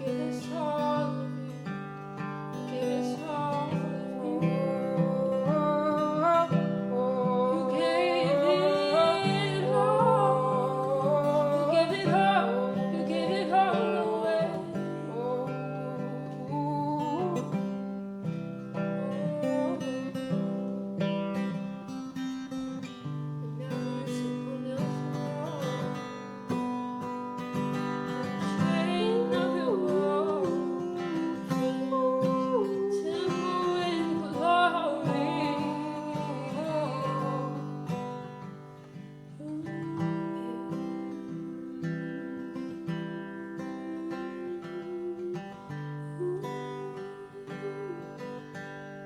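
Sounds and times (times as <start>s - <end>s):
person singing: 0.0s - 1.7s, 2.7s - 17.8s, 19.0s - 20.5s, 23.4s - 26.1s, 28.2s - 38.1s, 39.4s - 48.8s
acoustic guitar chords: 0.0s - 49.0s.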